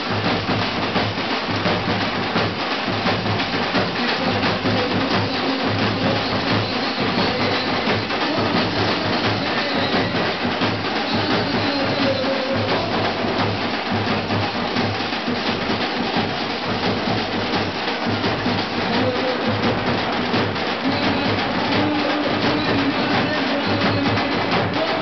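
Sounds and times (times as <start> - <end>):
drum group pounding rhythm: 0.0 - 25.0.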